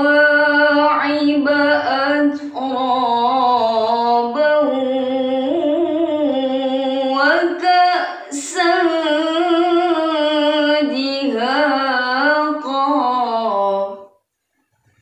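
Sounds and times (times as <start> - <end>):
woman chanting recitation: 0.0 - 14.1.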